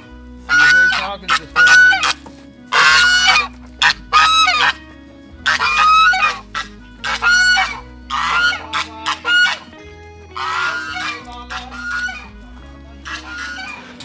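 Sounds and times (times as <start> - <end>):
faint background music: 0.0 - 14.0
geese honking: 0.0 - 14.0.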